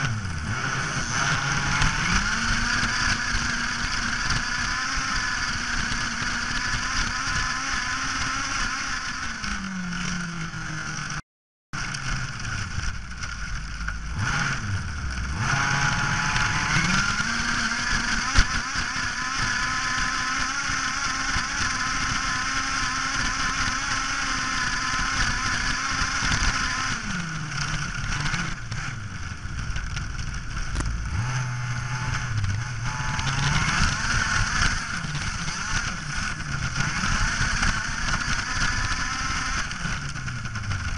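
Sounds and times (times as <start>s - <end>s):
small two-stroke engine revving: 0.0s - 11.2s, 11.8s - 40.9s.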